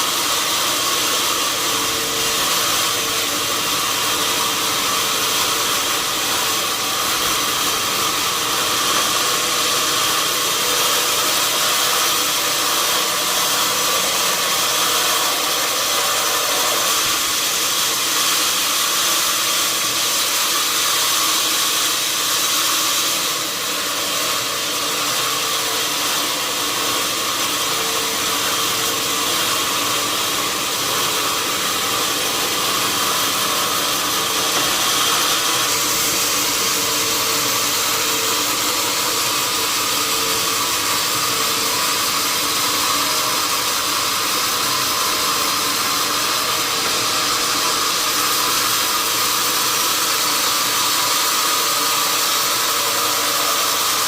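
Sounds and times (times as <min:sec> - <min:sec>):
sawmill machinery hissing: 0:00.0 - 0:54.0.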